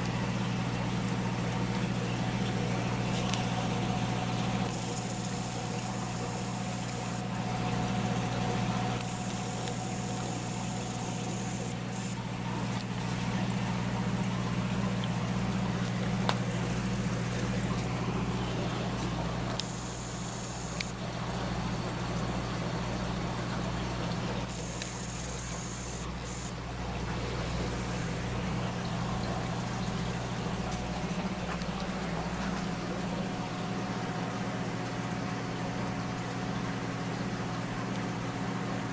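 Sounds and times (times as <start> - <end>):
aquarium pump humming: 0.0 - 38.9
water bubbling and trickling: 0.0 - 38.9.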